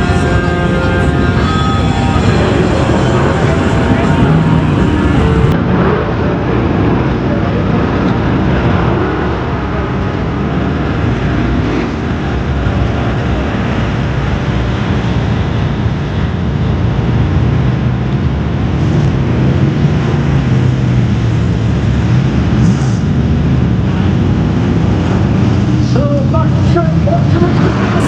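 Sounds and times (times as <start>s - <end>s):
race car engines droning: 0.0s - 28.0s.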